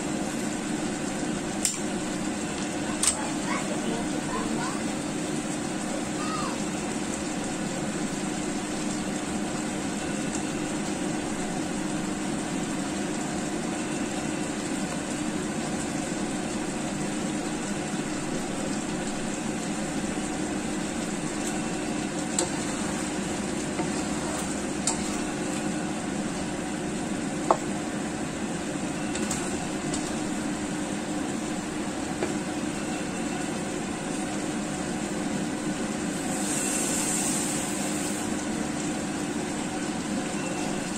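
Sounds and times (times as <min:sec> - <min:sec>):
curry bubbling and sizzling: 0:00.0 - 0:40.9.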